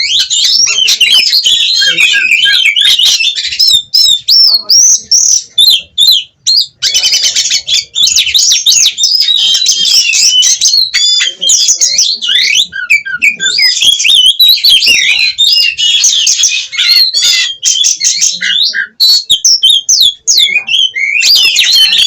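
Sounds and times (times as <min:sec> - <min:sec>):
bird singing whistles and chirps: 0:00.0 - 0:22.0.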